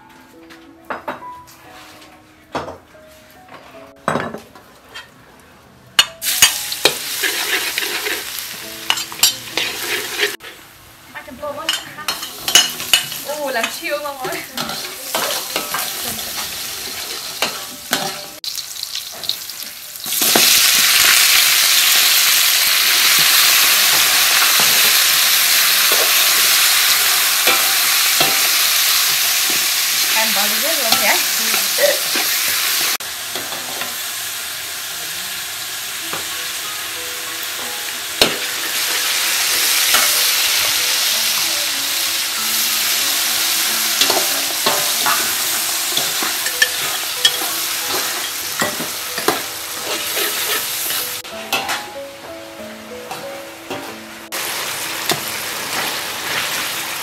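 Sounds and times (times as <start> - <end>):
food sizzling in oil: 6.2 - 51.9, 53.0 - 57.0.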